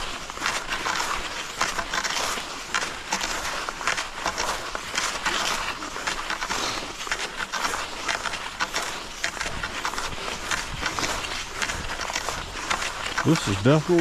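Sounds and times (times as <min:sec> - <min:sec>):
crunches from pole plants: 0:00.0 - 0:14.0
skis sliding on snow: 0:00.0 - 0:14.0.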